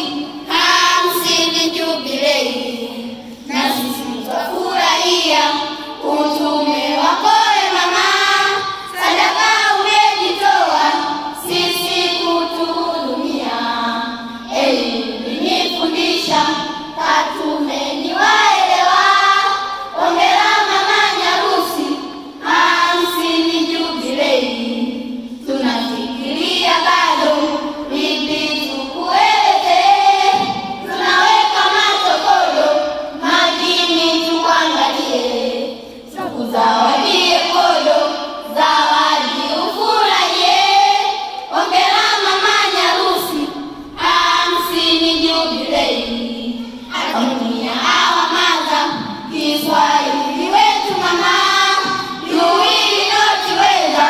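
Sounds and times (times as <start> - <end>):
children singing as a choir: 0.0 - 54.0.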